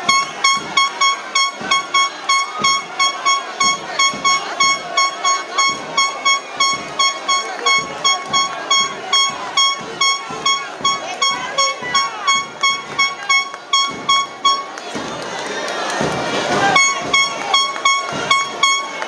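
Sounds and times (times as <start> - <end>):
crowd shouting: 0.0 - 19.0
high horn tooting: 0.0 - 19.0.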